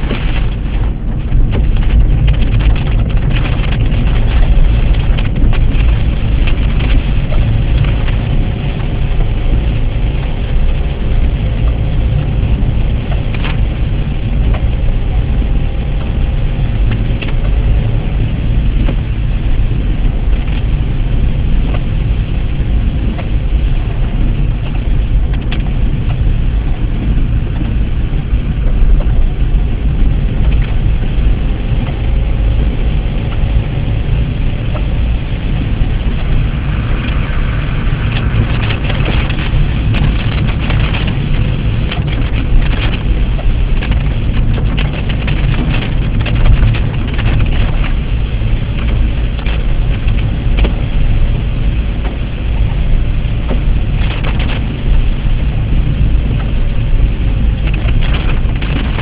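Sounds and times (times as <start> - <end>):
water hiss from wet road: 0.0 - 58.7
car engine and tyres rumbling: 0.0 - 59.0.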